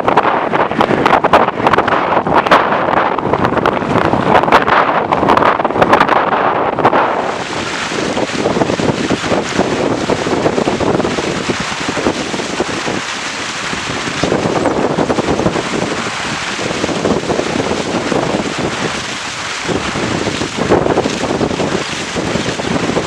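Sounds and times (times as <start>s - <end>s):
water rushing along a hull: 0.0s - 23.0s
wind buffeting microphone: 0.0s - 23.0s.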